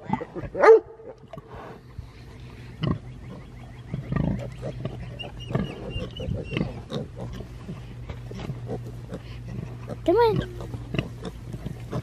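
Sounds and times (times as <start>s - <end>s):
pigs grunting: 0.0s - 12.0s
piglets squeaking: 2.1s - 12.0s.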